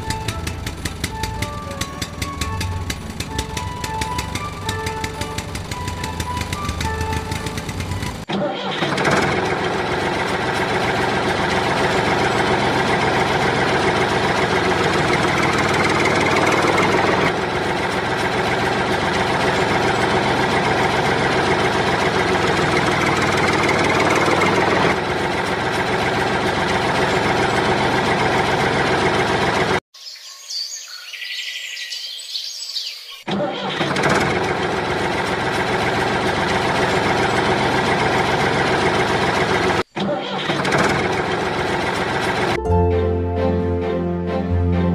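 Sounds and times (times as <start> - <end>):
tractor engine running: 0.0 - 29.8, 33.3 - 44.9.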